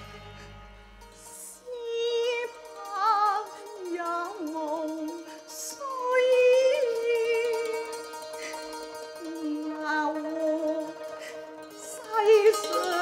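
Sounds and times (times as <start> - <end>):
instrumental accompaniment: 0.0 - 13.0
woman singing with vibrato: 1.1 - 8.1, 9.2 - 13.0.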